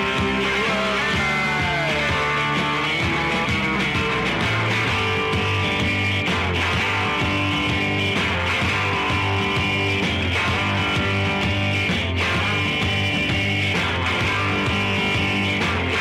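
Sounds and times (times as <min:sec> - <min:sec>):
punk rock song: 0:00.0 - 0:16.0.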